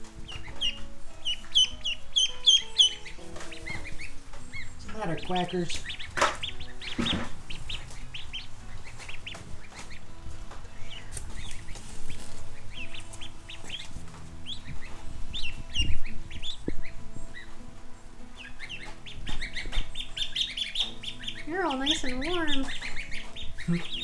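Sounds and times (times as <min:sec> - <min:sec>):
ducklings peeping: 0:00.0 - 0:24.0.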